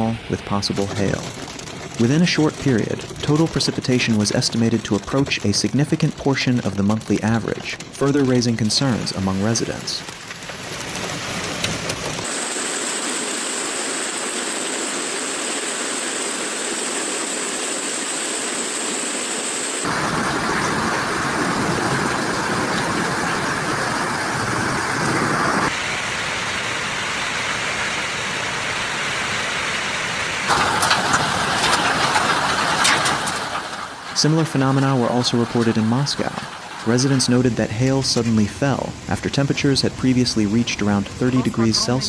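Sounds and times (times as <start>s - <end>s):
heavy rain hissing: 0.0s - 42.0s.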